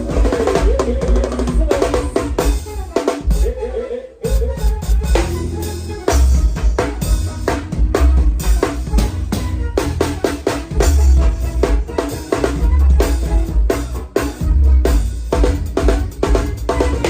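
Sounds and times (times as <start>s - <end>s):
drum kit kick and snare: 0.0s - 3.6s, 4.3s - 17.0s
heavy bass line: 0.0s - 17.0s.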